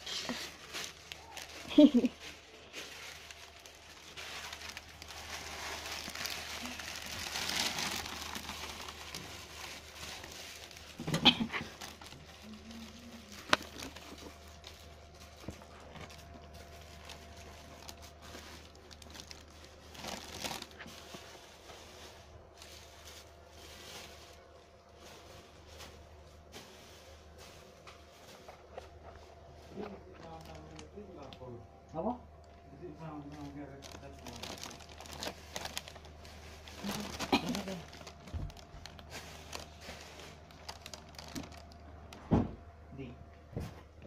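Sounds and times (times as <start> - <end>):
plastic bag rustling and crinkling: 0.0 - 31.6, 32.4 - 42.4.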